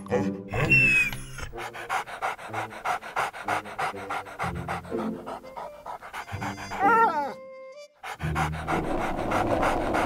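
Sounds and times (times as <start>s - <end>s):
background music: 0.0s - 10.0s
toy puppy panting: 0.6s - 7.2s, 8.0s - 10.0s.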